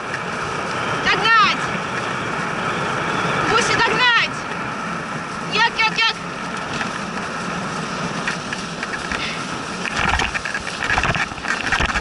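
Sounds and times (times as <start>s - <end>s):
sled rattling and clicking: 0.0s - 12.0s
sled runners hissing on snow: 0.0s - 12.0s.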